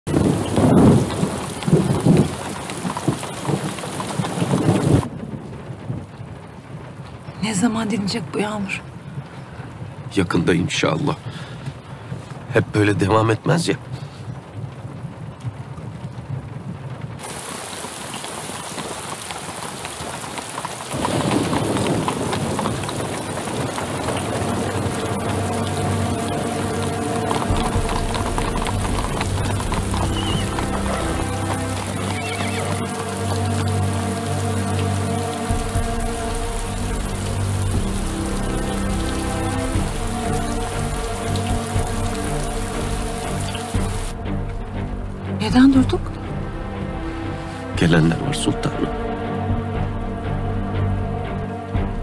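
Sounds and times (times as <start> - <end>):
heavy rain pouring: 0.0 - 52.0
low thunder rumbles: 0.1 - 12.8, 13.8 - 50.5.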